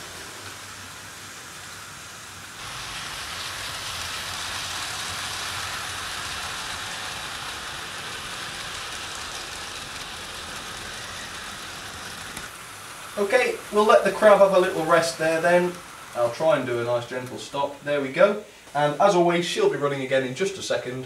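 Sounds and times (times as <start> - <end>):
model train wheels rattling on rail: 0.0 - 21.0.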